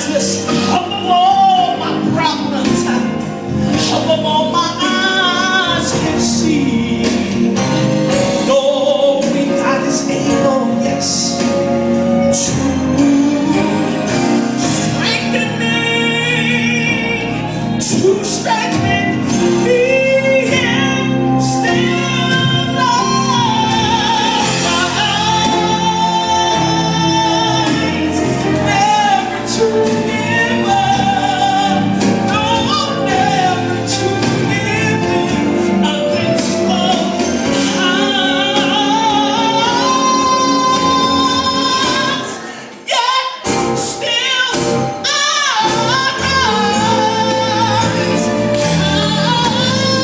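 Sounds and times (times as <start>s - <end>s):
gospel song with singing: 0.0s - 50.0s.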